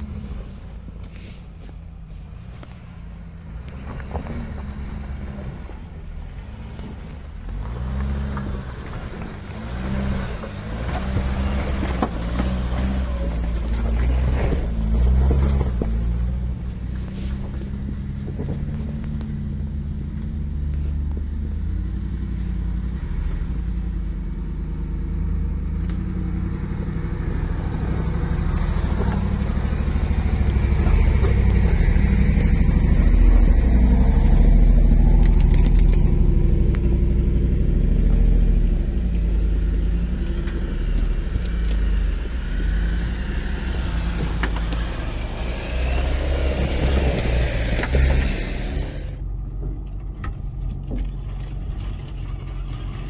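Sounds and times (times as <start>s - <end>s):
off-road vehicle engine rumbling: 0.0s - 53.0s.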